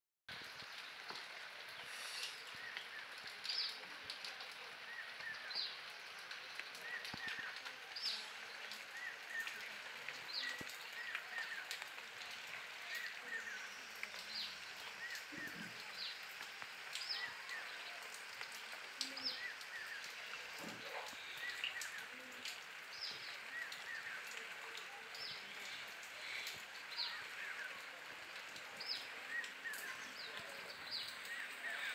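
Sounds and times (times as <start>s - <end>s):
steady outdoor hiss: 0.3s - 31.9s.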